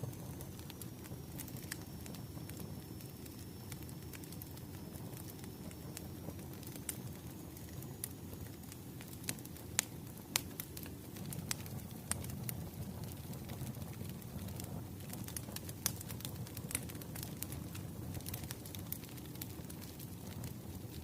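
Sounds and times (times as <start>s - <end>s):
fire crackles and pops: 0.0s - 21.0s
wood fire rumbling: 0.0s - 21.0s.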